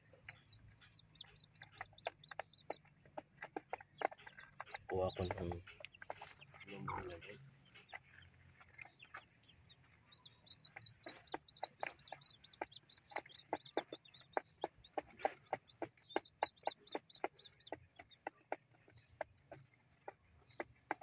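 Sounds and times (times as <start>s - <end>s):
beaks pecking on cardboard: 0.0s - 21.0s
chicks cheeping: 0.0s - 21.0s.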